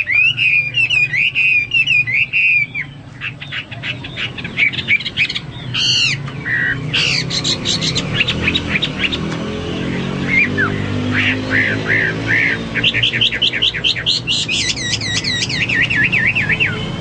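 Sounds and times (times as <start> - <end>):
bird singing varied song: 0.0 - 17.0.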